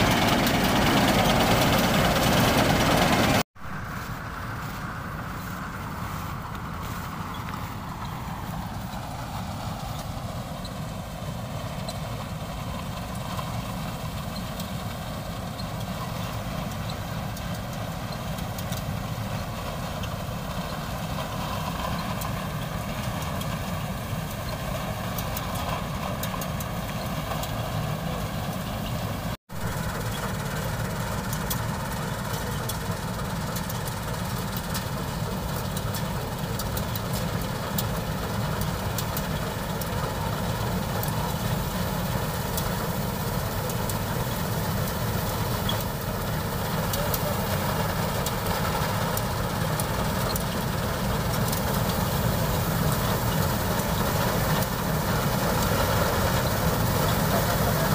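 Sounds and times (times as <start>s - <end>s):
combine harvester droning: 0.0s - 57.9s.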